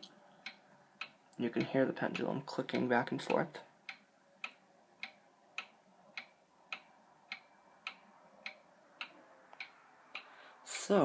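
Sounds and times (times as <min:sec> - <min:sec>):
pendulum clock ticking: 0:00.0 - 0:11.0.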